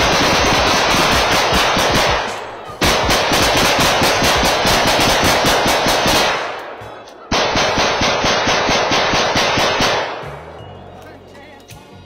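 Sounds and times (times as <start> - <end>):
rifles and pistols firing rapidly: 0.0 - 10.2.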